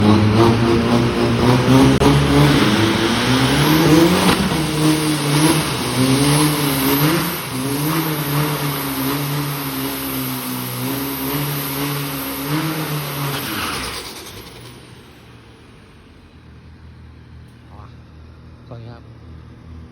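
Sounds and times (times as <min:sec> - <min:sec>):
truck engine revving loudly: 0:00.0 - 0:19.9.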